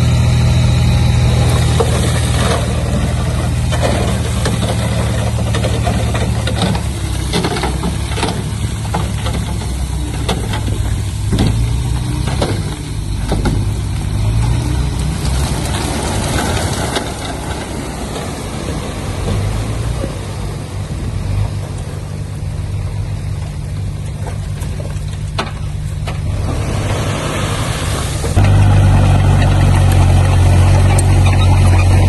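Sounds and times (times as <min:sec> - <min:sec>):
diesel engine of heavy machinery: 0:00.0 - 0:32.0.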